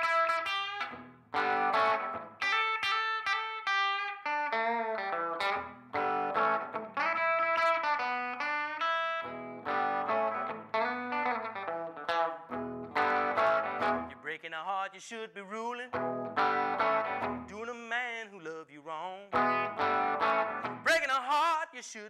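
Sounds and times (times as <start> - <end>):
electric guitar playing blues: 0.0 - 22.0.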